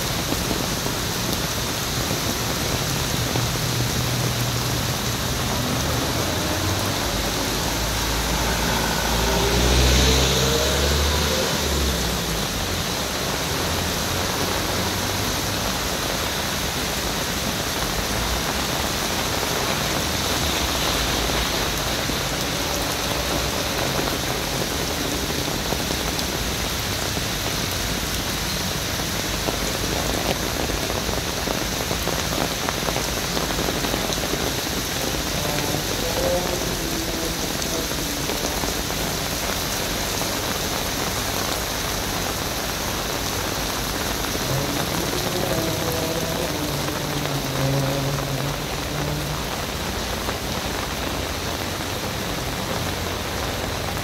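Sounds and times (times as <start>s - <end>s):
heavy rain on paved road: 0.0s - 54.0s.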